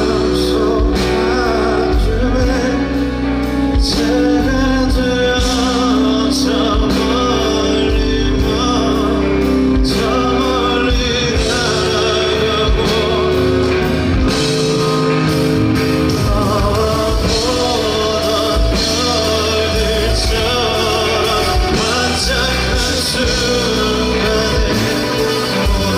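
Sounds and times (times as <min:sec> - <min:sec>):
live band music: 0:00.0 - 0:25.9
person singing: 0:00.0 - 0:25.9.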